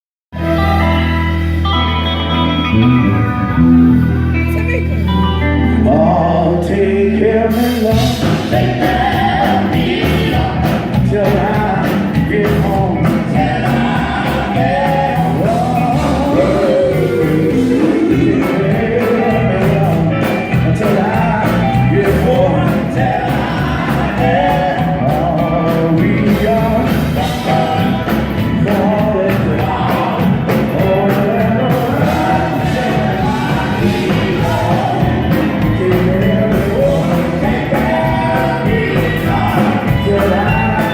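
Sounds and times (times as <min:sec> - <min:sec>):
band with guitar and bass: 0:00.3 - 0:40.9
male vocal group singing: 0:05.6 - 0:40.9.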